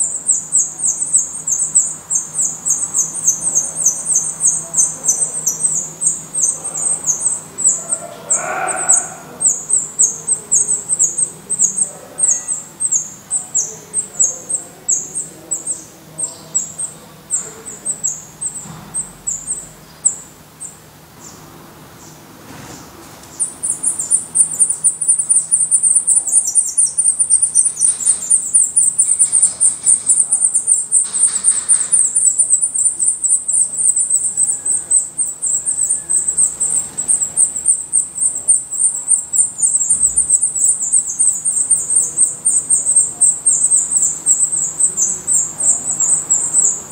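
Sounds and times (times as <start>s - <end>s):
nestlings begging calls: 0.0s - 46.9s.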